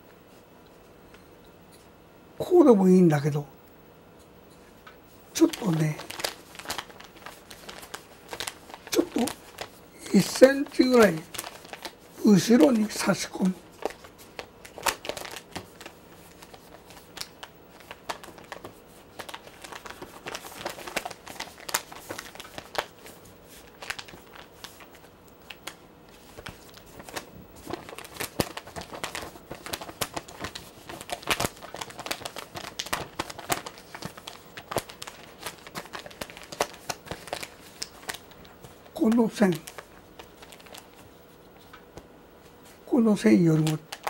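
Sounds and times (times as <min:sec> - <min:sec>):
paper rustling and crinkling: 0:05.1 - 0:44.0.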